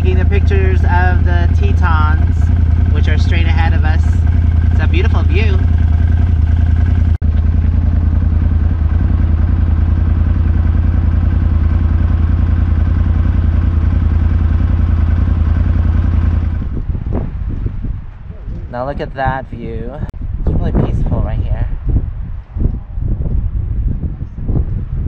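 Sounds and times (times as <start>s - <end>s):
off-road vehicle engine droning: 0.0s - 22.0s.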